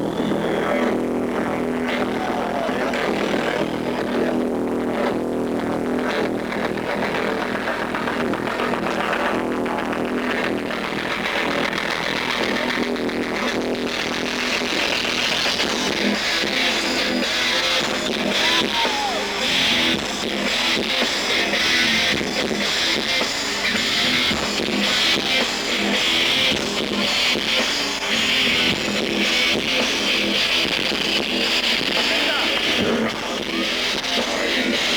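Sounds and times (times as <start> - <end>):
live metal band playing: 0.0 - 34.9.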